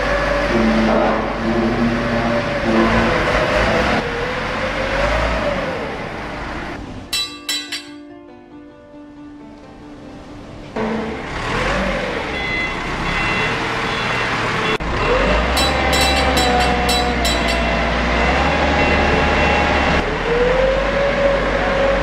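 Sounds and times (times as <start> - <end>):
forklift engine running: 0.0 - 7.2, 10.8 - 22.0.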